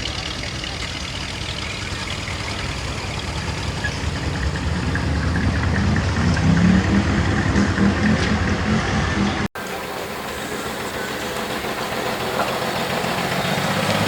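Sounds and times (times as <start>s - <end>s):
car engine with pulsing exhaust: 0.0s - 14.0s.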